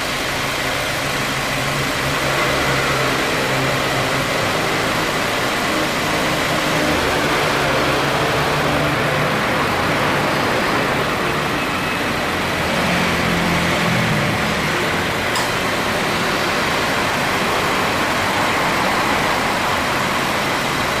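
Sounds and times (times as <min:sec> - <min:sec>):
air conditioning compressor running: 0:00.0 - 0:12.8, 0:13.7 - 0:21.0
car engine idling: 0:00.0 - 0:21.0.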